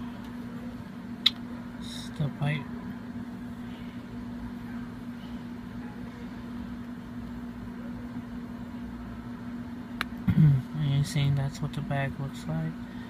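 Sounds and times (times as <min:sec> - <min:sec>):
low hum with constant tone: 0:00.0 - 0:13.0.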